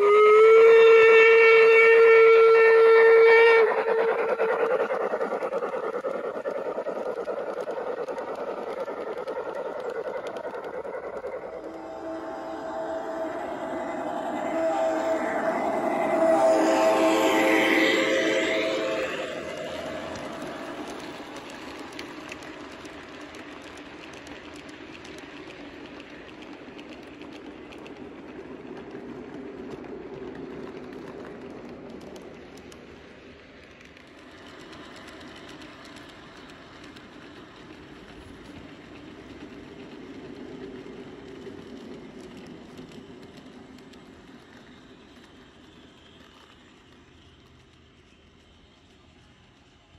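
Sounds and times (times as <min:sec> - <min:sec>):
light clicks of train wheels: 0:00.0 - 0:49.9
model train wheels rumbling: 0:00.0 - 0:49.9.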